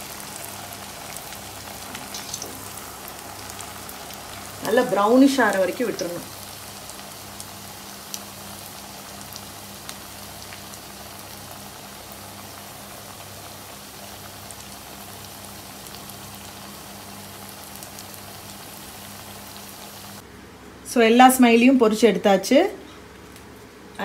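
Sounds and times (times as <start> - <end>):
food deep-frying in hot oil: 0.0 - 20.2.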